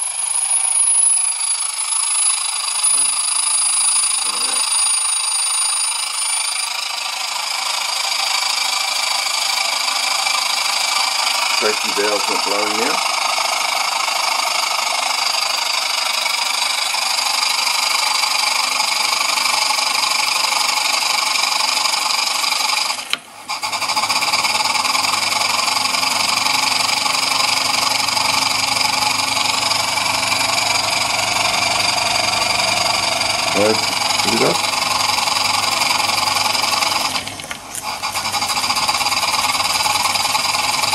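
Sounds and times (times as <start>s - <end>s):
toy steam engine running: 0.0s - 40.9s.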